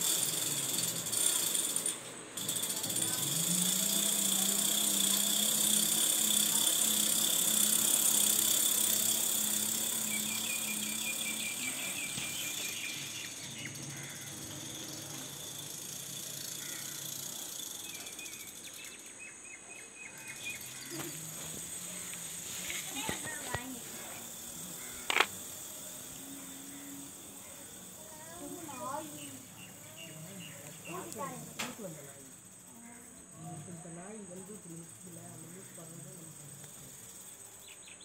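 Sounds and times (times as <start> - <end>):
electric motor humming: 0.0 - 18.9, 20.2 - 37.5
high-pitched hiss: 0.0 - 38.0.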